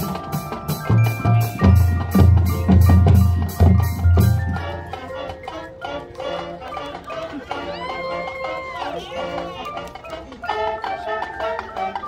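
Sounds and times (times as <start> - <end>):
marching band playing: 0.0 - 12.0
percussion beating steady rhythm: 0.0 - 12.0.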